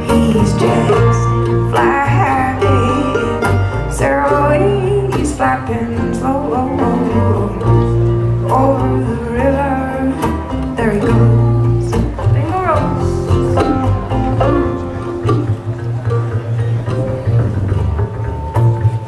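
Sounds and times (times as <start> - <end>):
acoustic folk string band: 0.0 - 19.0
upright bass long notes: 0.0 - 19.0.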